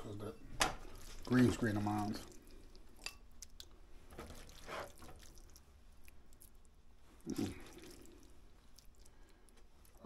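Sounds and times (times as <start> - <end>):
wet squelches of noodles: 0.8 - 10.0.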